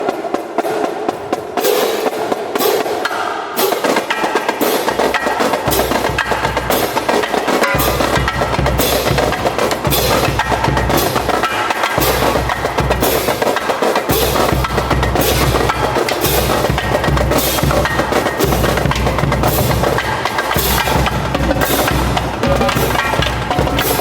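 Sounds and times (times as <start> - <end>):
woody percussive drumming: 0.0 - 24.0.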